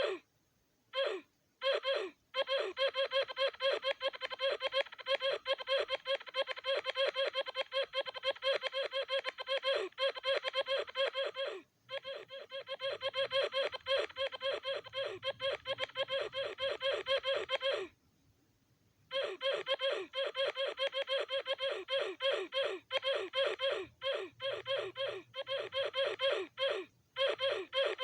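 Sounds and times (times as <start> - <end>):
high-pitched laughing voice: 0.0 - 0.2, 1.0 - 17.9, 19.1 - 28.0.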